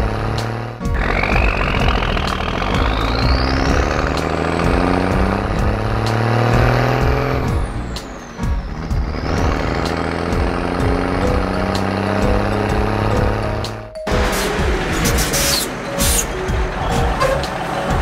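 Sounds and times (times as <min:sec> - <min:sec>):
background music: 0:00.0 - 0:18.0
cartoon truck engine: 0:00.0 - 0:18.0.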